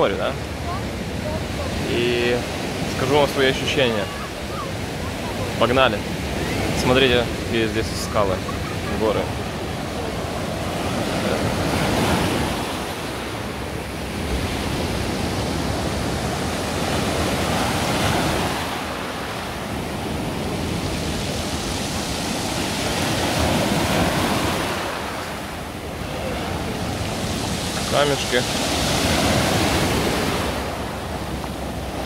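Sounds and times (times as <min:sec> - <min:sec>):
surf breaking on pebble shore: 0:00.0 - 0:32.0.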